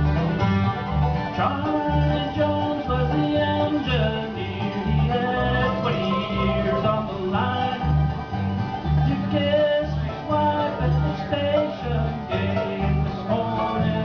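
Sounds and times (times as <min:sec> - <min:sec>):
guitar: 0:00.0 - 0:14.0
mandolin: 0:00.0 - 0:14.0
picked banjo: 0:00.0 - 0:14.0
upright bass walking: 0:00.0 - 0:14.0.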